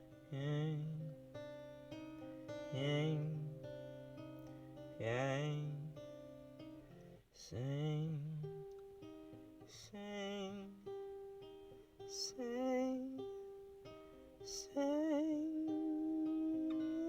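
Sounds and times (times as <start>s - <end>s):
acoustic guitar chords: 0.0s - 17.0s
wordless sung vocals: 0.0s - 17.0s.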